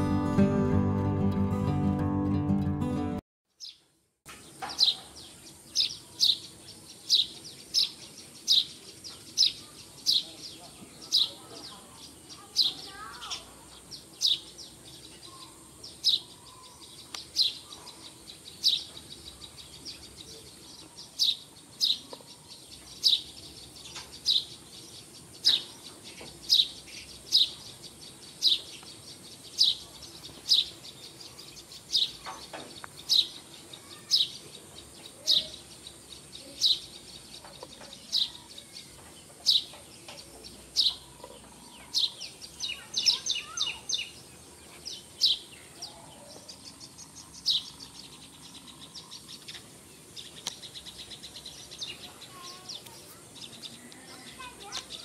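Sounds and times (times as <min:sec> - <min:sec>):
bird chirping: 0:03.5 - 0:55.0.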